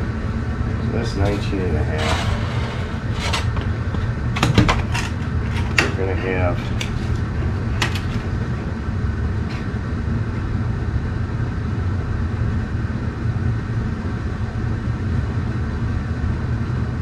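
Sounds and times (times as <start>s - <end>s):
low rumble of machinery or fan: 0.0s - 17.0s.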